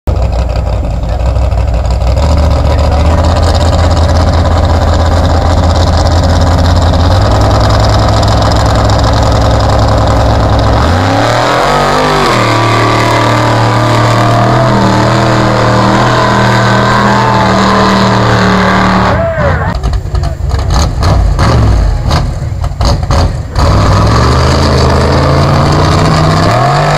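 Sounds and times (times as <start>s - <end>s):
truck engine running hard: 0.1s - 26.9s.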